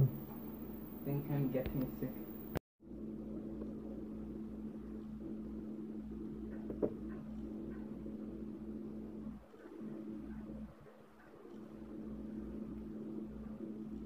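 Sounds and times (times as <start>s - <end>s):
faint constant tone: 0.0s - 14.0s.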